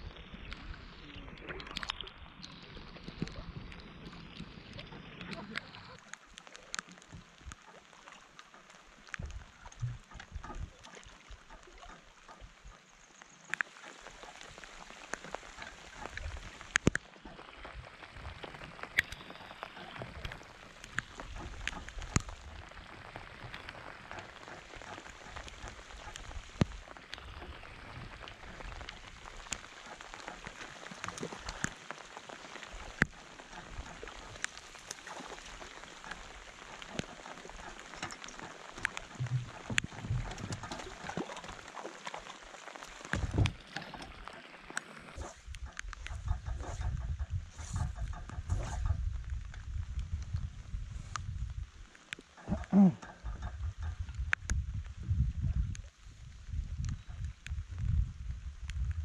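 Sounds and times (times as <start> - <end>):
rain falling on water: 0.0 - 59.0.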